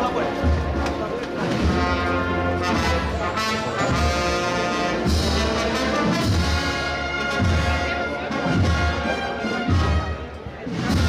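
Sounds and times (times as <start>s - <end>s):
brass band playing a march: 0.0s - 11.0s.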